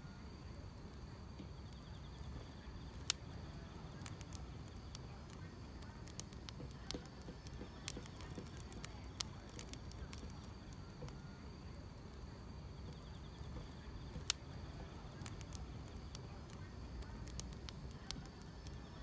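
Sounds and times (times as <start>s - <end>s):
insects chirping: 0.0s - 19.0s
wood fire crackling: 0.0s - 19.0s.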